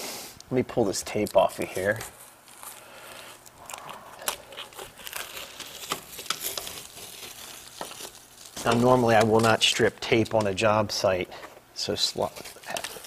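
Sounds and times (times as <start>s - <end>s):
tape peeling with crackles: 1.0s - 10.7s, 12.0s - 13.0s.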